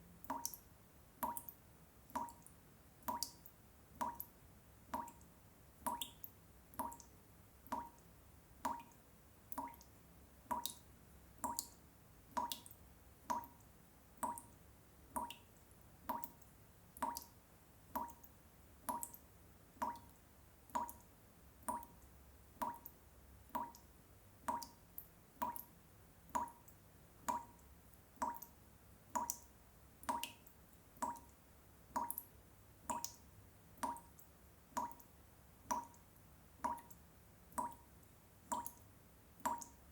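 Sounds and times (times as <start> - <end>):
water drops dripping: 0.2 - 39.8.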